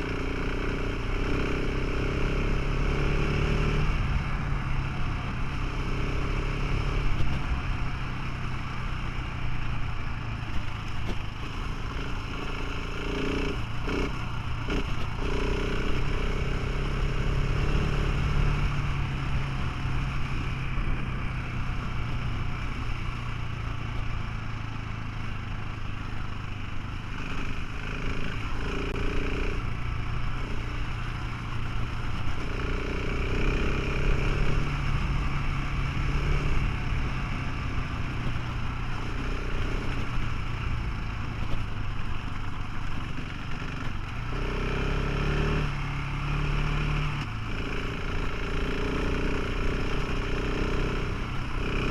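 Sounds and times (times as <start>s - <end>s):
motorcycle engine running: 0.0s - 51.9s
wind and road noise: 0.0s - 51.9s.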